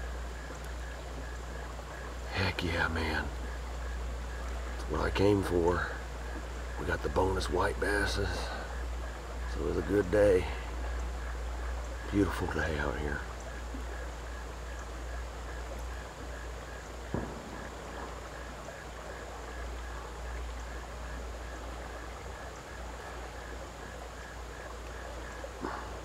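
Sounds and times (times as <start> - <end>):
low rumble and hiss: 0.0 - 26.0.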